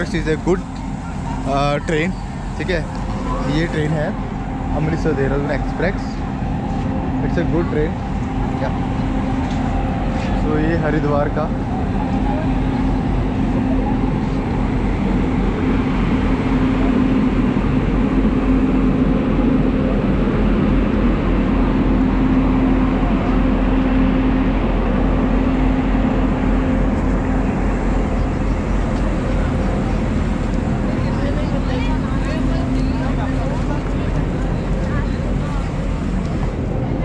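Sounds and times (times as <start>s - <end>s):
busy platform noise: 0.0s - 37.0s
electric locomotive humming: 0.0s - 37.0s.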